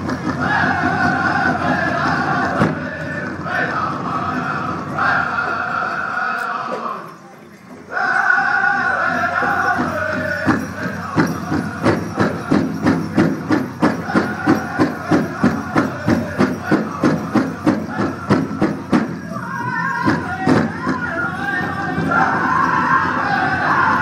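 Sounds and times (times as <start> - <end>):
big drum beat: 0.0 - 5.3, 9.1 - 24.0
high-pitched group singing: 0.2 - 7.2, 7.9 - 24.0.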